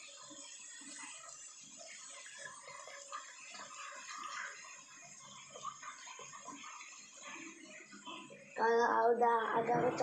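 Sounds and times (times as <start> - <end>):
food deep-frying in oil: 0.0 - 10.0.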